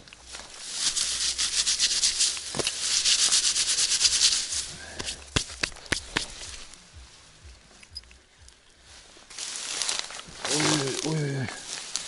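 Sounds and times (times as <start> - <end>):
reeds and grass rustling: 0.0 - 12.0.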